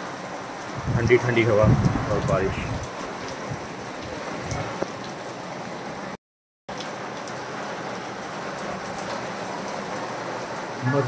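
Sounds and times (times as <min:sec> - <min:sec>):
heavy rain on tiles: 0:00.0 - 0:11.0.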